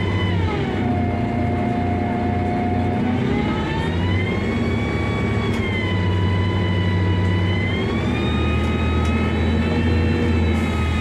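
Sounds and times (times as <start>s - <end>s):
bus engine hum and whine: 0.0s - 11.0s.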